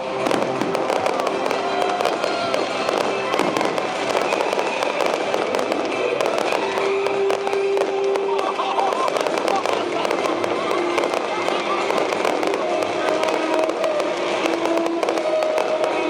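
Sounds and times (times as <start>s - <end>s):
fireworks cracking and popping: 0.0s - 16.0s
music over loudspeakers: 0.0s - 16.0s.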